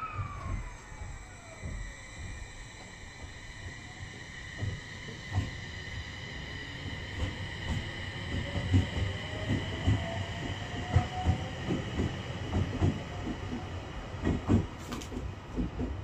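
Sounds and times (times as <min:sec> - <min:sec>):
train rumble: 0:00.0 - 0:16.0
train wheels clickety-clack: 0:00.0 - 0:16.0.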